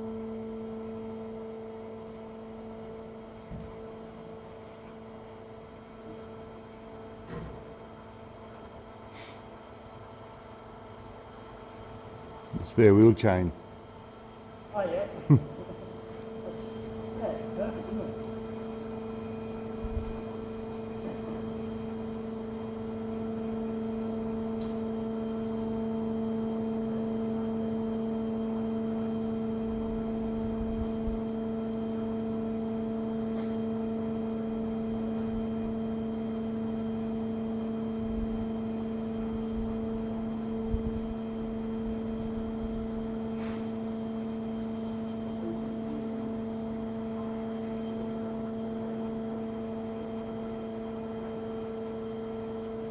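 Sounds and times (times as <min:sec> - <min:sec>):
tilt table drive humming: 0:00.0 - 0:52.9.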